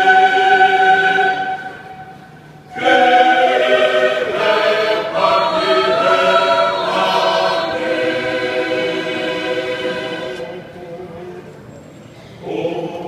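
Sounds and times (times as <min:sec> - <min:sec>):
choir singing in harmony: 0:00.0 - 0:10.8, 0:12.4 - 0:13.0.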